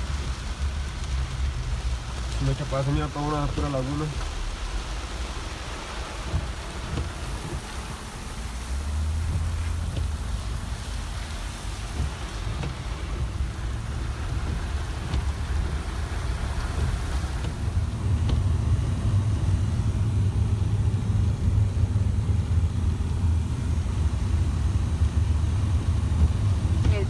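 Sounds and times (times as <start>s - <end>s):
engine and tyres rumbling: 0.0s - 27.0s
rain hissing: 0.0s - 27.0s.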